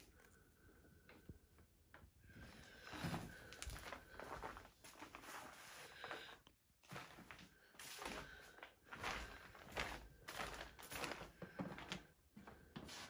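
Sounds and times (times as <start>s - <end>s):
faint footsteps: 2.2s - 13.0s.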